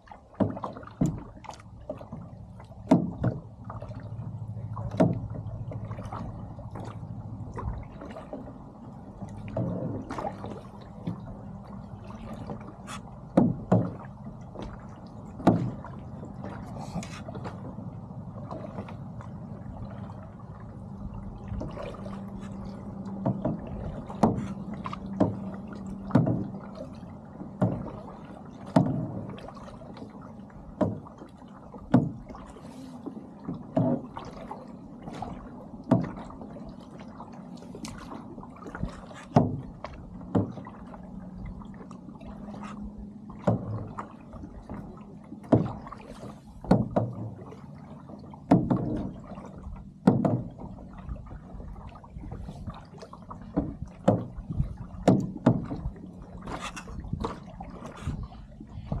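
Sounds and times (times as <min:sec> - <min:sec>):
kayak paddle splashing: 0:00.0 - 0:59.0.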